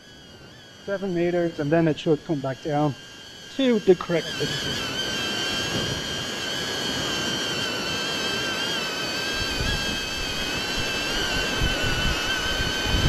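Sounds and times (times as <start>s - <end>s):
drone propellers whining: 0.0s - 13.0s
wind buffeting microphone: 0.9s - 13.0s.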